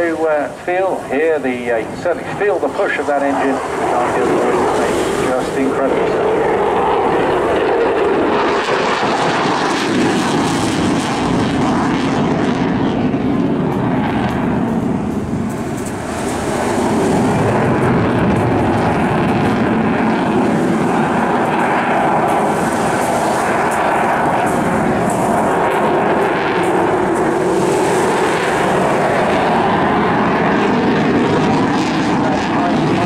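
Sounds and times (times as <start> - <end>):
fighter jet roar: 0.0 - 33.0.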